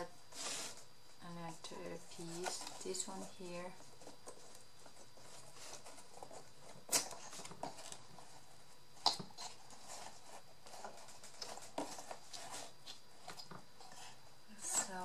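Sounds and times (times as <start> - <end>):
cardboard rustling on tabletop: 0.0 - 15.0.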